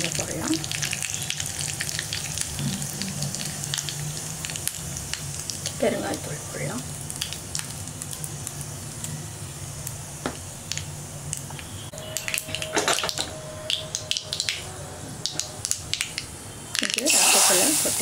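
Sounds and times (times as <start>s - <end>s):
seeds spluttering in hot oil: 0.0s - 18.0s.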